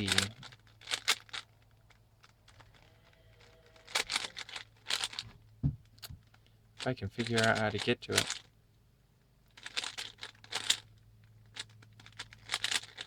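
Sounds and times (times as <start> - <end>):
puzzle cube rattling clicks: 0.0 - 5.2, 6.0 - 8.5, 9.5 - 13.0.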